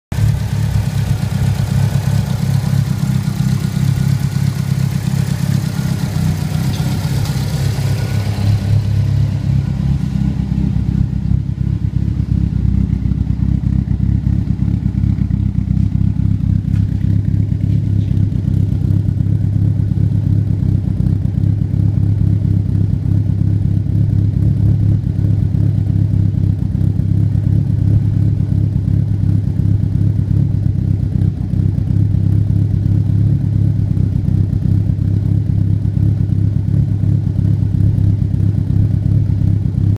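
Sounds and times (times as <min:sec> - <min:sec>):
car engine idling with choppy lope: 0:00.1 - 0:39.9.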